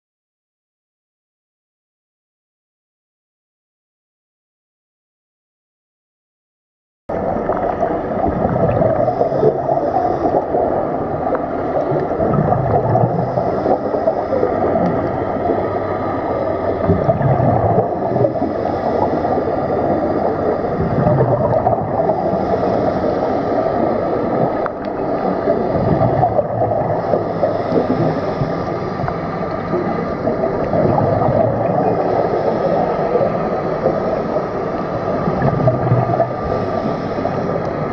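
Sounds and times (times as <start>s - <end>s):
low rumbling swells: 7.1s - 37.9s
underwater bubbles gurgling: 7.1s - 37.9s
dense underwater hiss: 7.2s - 37.9s.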